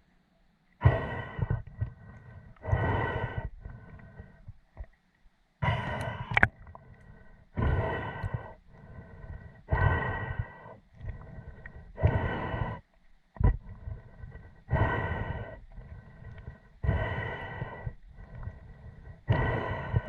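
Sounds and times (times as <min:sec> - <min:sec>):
breathing hard through snorkel: 0:00.8 - 0:04.6, 0:05.6 - 0:20.0.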